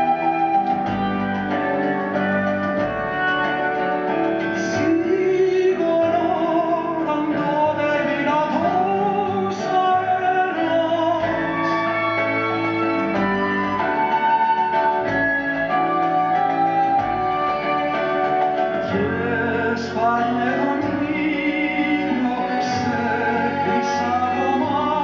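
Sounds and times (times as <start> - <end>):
instrumental accompaniment: 0.0 - 25.0.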